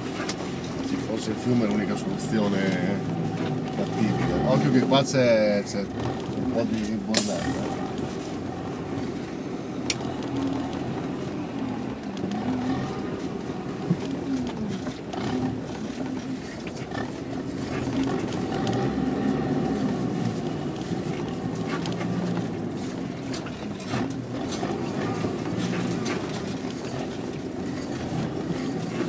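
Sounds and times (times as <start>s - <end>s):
car engine while driving: 0.0s - 29.0s.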